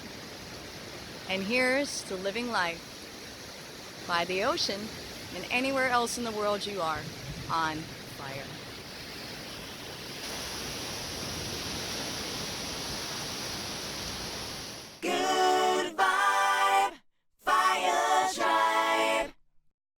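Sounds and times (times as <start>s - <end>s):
ocean surf hissing: 0.0s - 16.8s.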